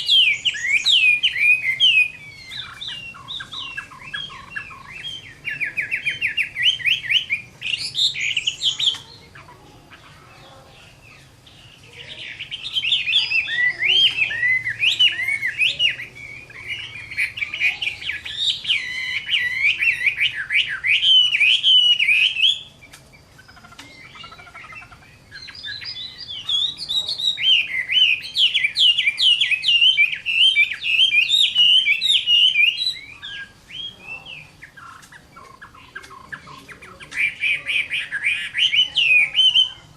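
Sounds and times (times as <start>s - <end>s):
bird singing whistled phrases: 0.0s - 9.4s, 11.1s - 39.9s.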